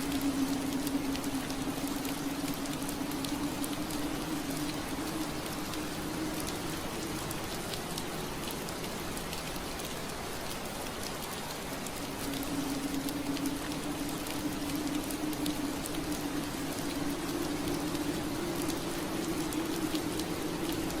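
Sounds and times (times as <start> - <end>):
rain pattering on window glass: 0.0 - 21.0.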